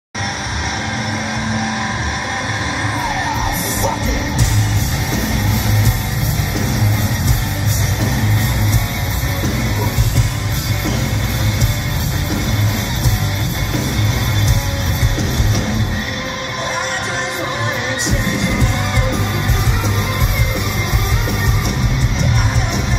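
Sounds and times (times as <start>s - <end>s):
bass guitar: 0.1s - 22.9s
distorted electric guitars: 0.1s - 22.9s
drums: 0.2s - 22.9s.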